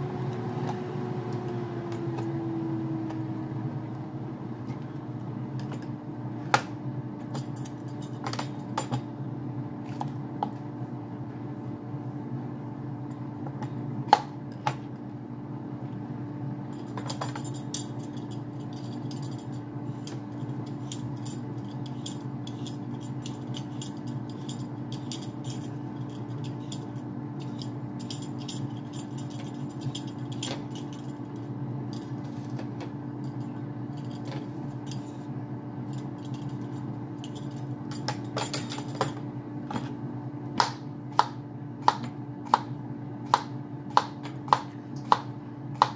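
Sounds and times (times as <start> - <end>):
air fryer fan hum: 0.0 - 45.9.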